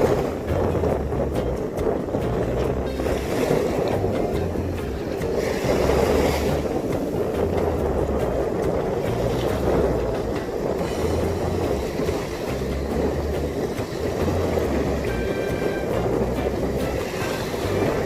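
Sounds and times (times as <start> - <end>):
boat engine rumble: 0.0 - 18.0
wind buffeting microphone: 0.0 - 18.0.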